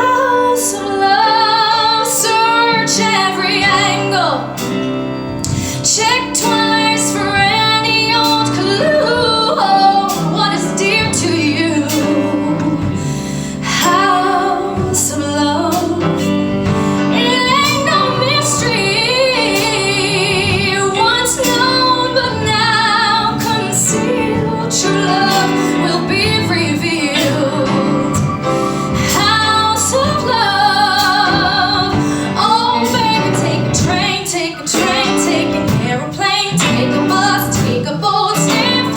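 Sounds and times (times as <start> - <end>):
instrumental accompaniment: 0.0 - 38.9
woman singing pop song: 0.0 - 38.9.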